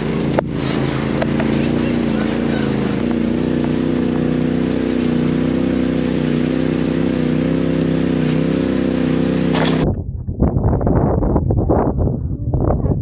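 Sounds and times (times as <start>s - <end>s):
tyre and wind noise: 0.0s - 13.0s
utility vehicle engine droning: 0.0s - 13.0s.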